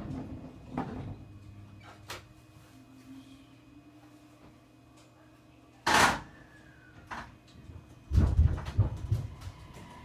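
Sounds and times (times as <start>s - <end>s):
low hum in train cab: 0.0s - 10.0s.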